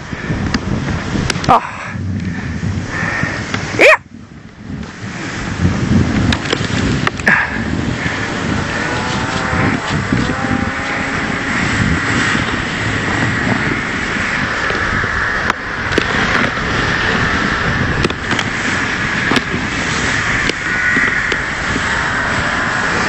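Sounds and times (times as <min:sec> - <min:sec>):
sled runners scraping over snow: 0:02.0 - 0:03.8, 0:04.6 - 0:23.0.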